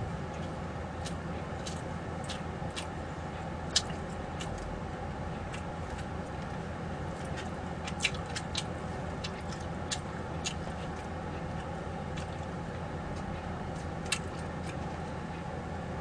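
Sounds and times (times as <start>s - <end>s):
low hum: 0.0s - 16.0s
eating clicks and smacks: 0.3s - 4.8s, 5.4s - 15.6s.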